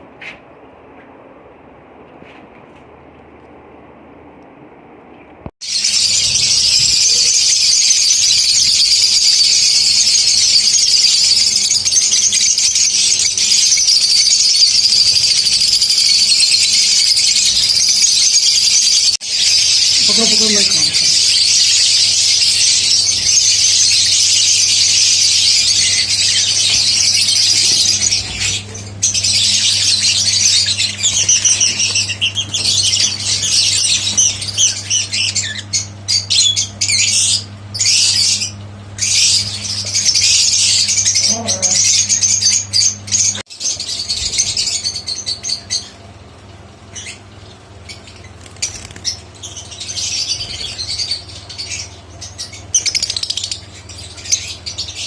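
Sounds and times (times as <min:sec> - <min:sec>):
small birds chirping: 0:05.6 - 0:55.0.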